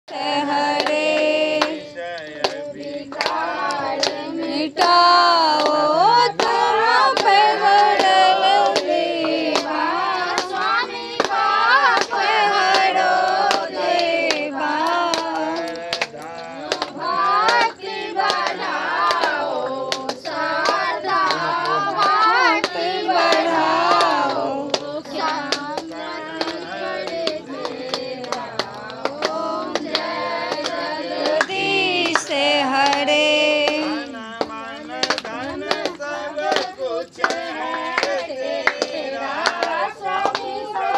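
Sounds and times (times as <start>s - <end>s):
group singing a hymn: 0.1s - 40.9s
rhythmic hand clapping: 0.1s - 40.9s.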